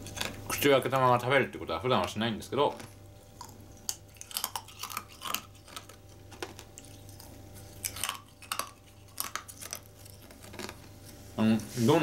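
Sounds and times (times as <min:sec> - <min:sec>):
crunchy candy chewing: 0:00.0 - 0:01.2, 0:01.9 - 0:11.2.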